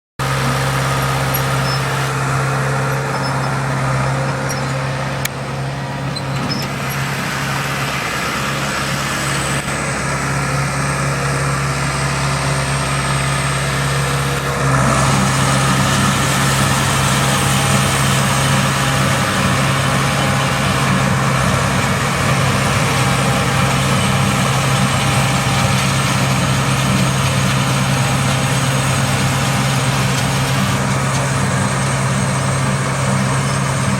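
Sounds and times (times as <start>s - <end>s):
tractor engine droning under load: 0.2s - 33.9s.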